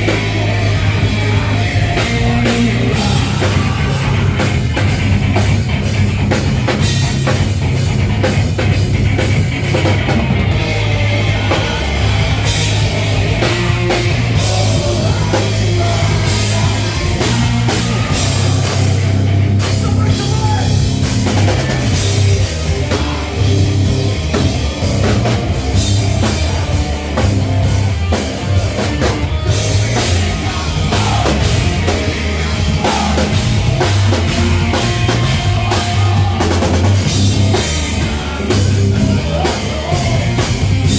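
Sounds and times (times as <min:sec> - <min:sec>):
bass line: 0:00.0 - 0:40.9
drum kit beat: 0:00.0 - 0:40.9
rock band playing live: 0:00.0 - 0:40.9.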